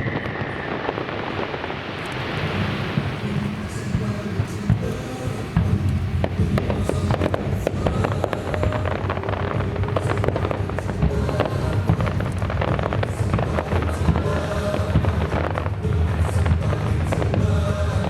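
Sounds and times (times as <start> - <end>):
deep rumble: 0.0 - 18.0
fireworks bursting and crackling: 0.0 - 18.0
loud show music: 2.2 - 18.0.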